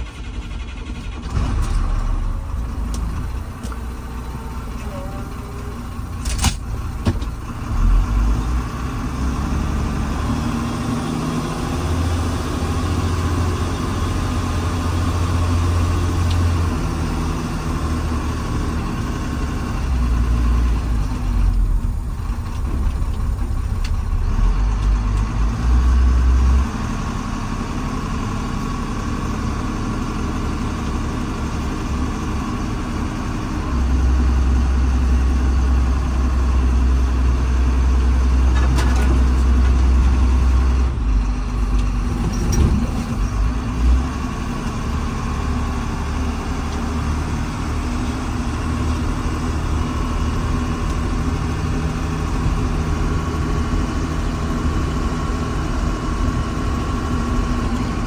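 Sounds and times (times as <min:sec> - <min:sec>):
diesel engine of earthmoving machine: 0:00.0 - 0:58.0.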